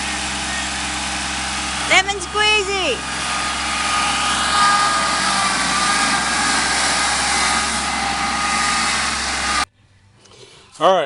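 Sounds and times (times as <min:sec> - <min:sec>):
thin steady whine: 0:00.0 - 0:09.7
tractor diesel engine running: 0:00.0 - 0:09.7.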